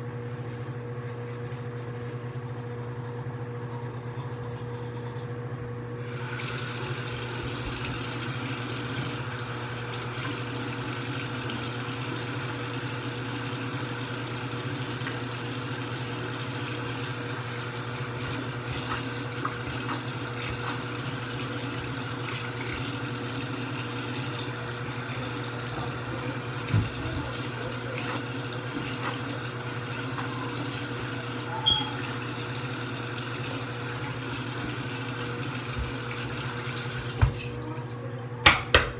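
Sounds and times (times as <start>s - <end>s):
tap water running into sink: 6.1s - 37.6s.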